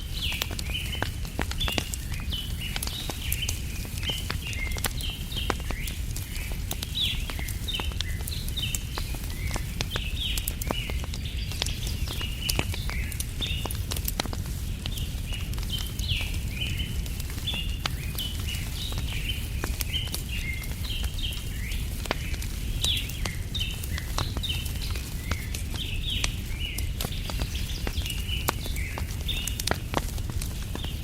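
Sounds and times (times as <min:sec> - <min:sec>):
small birds chirping: 0:00.0 - 0:31.0
wood fire crackling: 0:00.0 - 0:31.0.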